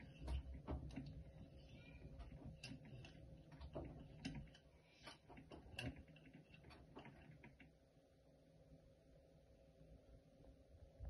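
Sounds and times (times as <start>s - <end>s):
washing machine low rumble: 0.0s - 11.0s.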